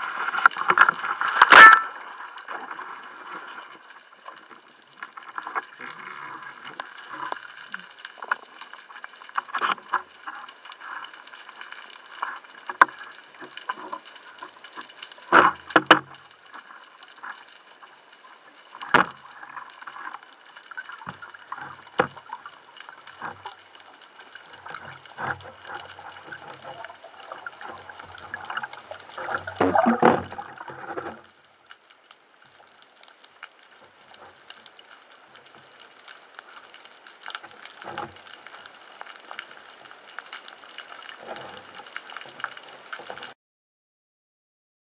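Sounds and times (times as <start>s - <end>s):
underwater bubbles gurgling: 0.0s - 43.4s.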